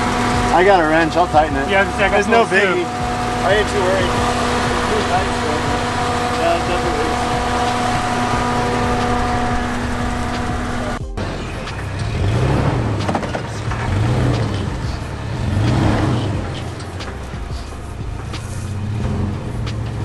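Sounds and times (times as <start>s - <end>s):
steady hum: 0.0s - 19.8s
truck engine revving: 0.0s - 20.0s.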